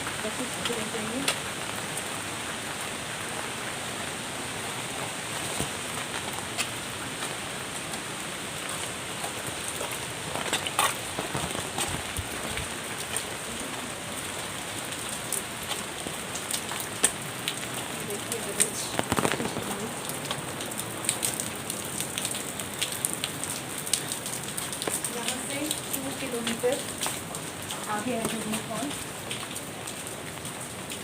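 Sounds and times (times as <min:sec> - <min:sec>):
sharp taps of raindrops: 0:00.0 - 0:03.8, 0:04.6 - 0:31.0
steady rain falling: 0:00.0 - 0:31.0.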